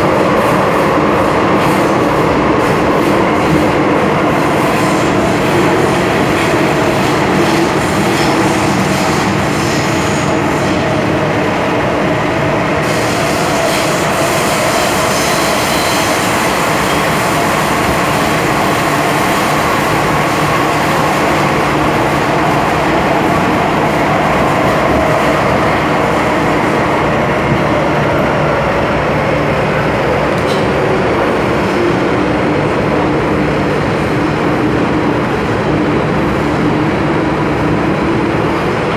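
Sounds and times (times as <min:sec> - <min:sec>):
wheels rumbling on rail: 0:00.0 - 0:38.9.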